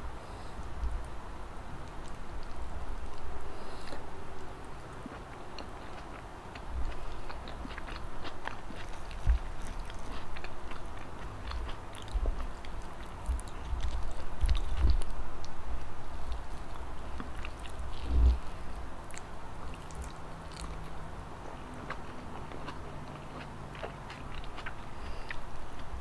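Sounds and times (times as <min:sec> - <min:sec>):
close-miked chewing: 0:01.8 - 0:26.0.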